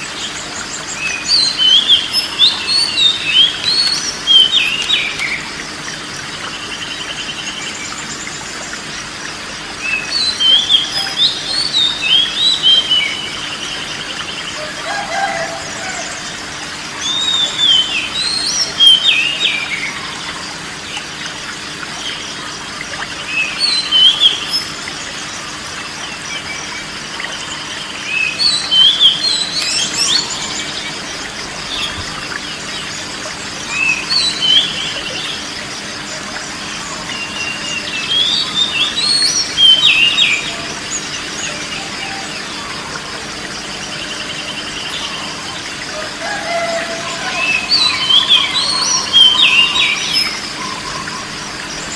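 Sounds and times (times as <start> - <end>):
songbird singing: 0.0 - 51.9
steady background hiss: 0.0 - 51.9.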